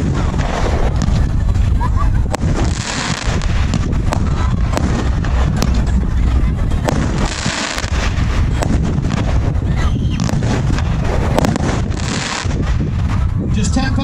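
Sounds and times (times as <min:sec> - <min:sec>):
firework crackling hiss: 0:00.0 - 0:13.4
firework bangs: 0:00.0 - 0:13.6
wind rumbling on microphone: 0:00.0 - 0:14.0.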